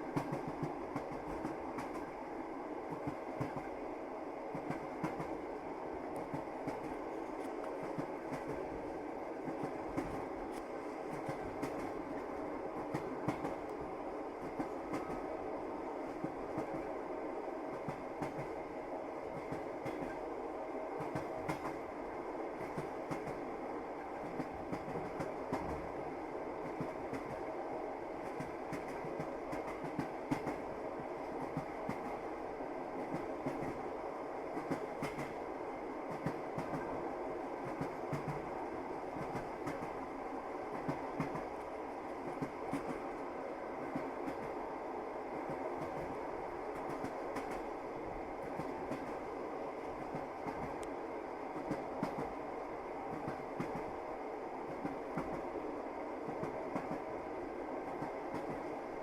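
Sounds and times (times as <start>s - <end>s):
train running gear rumbling: 0.0s - 59.0s.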